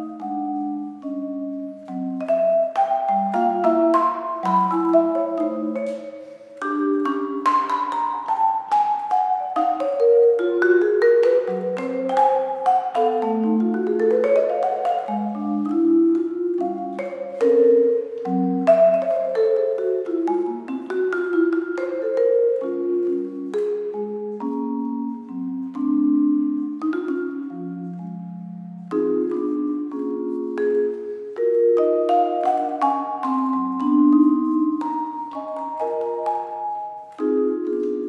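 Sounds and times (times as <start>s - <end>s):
vibraphone jazz ballad: 0.0s - 38.0s.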